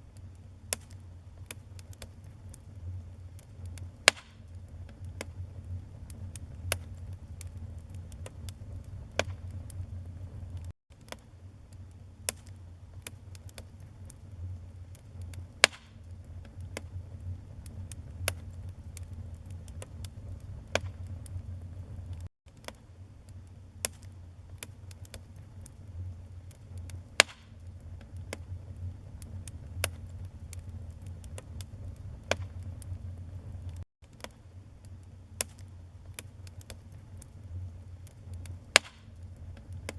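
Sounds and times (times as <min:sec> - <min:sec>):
low rumble of flames: 0:00.0 - 0:39.9
wood fire crackling and popping: 0:00.1 - 0:39.9.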